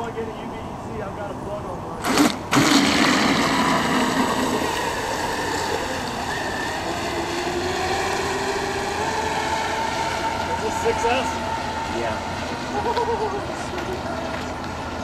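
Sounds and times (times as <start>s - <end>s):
rc boat motor whine: 2.0s - 15.0s
water wash: 2.0s - 15.0s.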